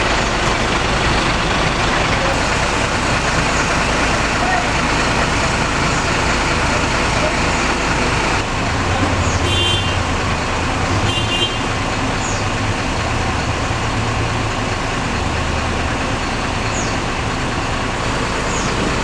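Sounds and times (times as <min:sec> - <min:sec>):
bus engine humming: 0:00.0 - 0:19.0
road and tyre noise: 0:00.0 - 0:19.0.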